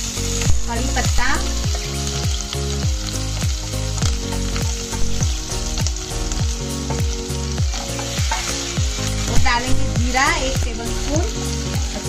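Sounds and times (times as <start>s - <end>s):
background music with low beat: 0.0s - 12.0s
paste sizzling in hot oil: 0.0s - 12.0s.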